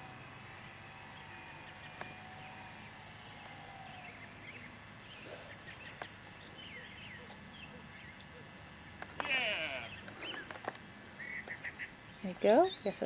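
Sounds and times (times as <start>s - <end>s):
faint high whine: 0.0s - 13.0s
birds chirping faintly: 0.4s - 13.0s.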